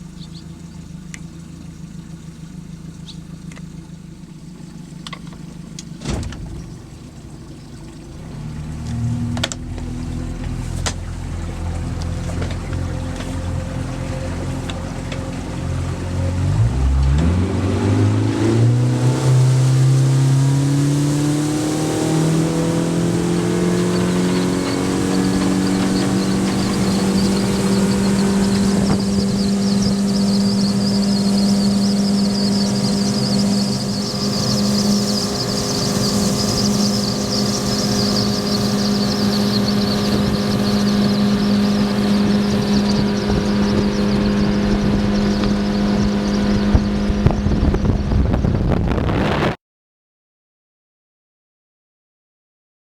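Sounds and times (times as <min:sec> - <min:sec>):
outboard motor accelerating: 0:00.0 - 0:49.6
rushing water and wind: 0:05.8 - 0:48.7.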